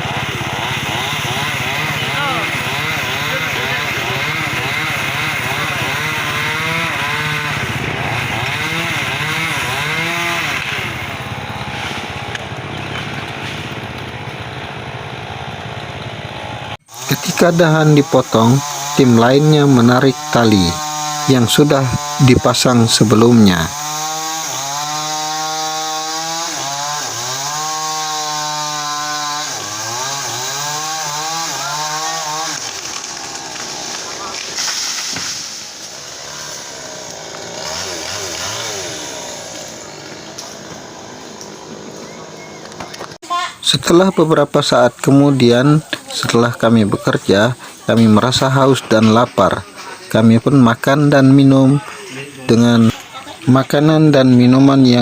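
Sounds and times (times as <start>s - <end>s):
chainsaw revving: 0.0s - 43.2s, 43.9s - 55.0s.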